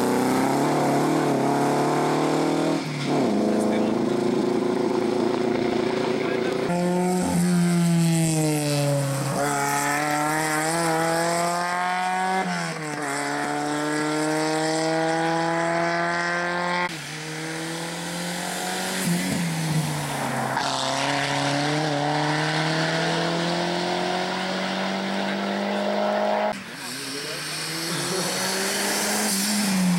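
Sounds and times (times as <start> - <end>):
rally car engines revving: 0.0 - 29.9.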